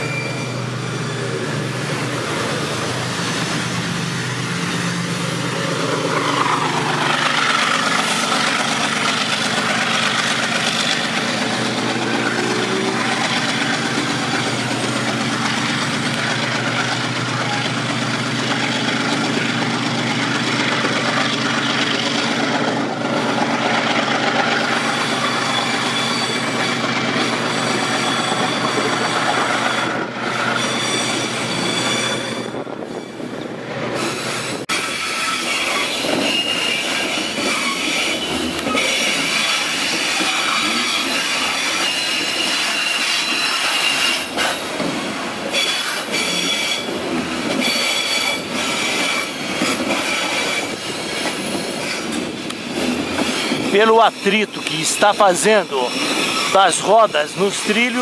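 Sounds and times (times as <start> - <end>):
diesel locomotive engine drone: 0.0 - 58.0
train wheels squealing on rails: 0.0 - 58.0.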